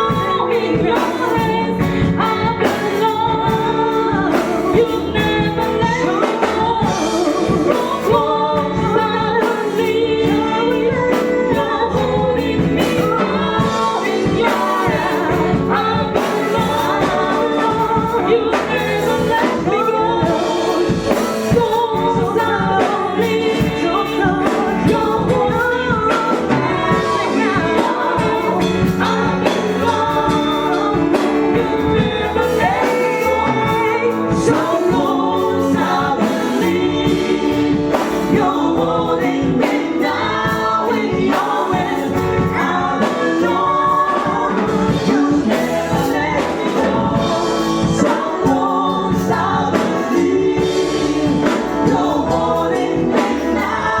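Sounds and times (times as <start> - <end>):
band accompaniment: 0.0 - 54.0
church choir singing gospel: 0.0 - 54.0
drums: 0.0 - 54.0.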